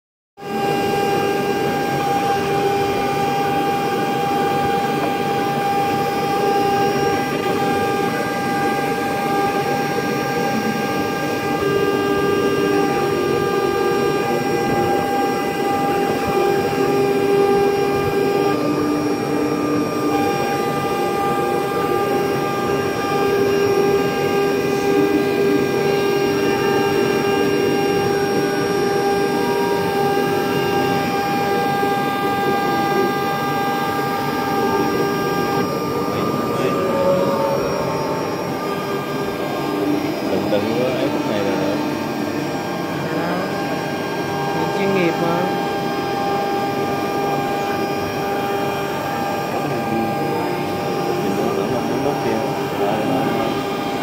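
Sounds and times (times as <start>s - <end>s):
motor hum shifting in pitch: 0.4s - 54.0s
router spindle high whine: 0.4s - 54.0s.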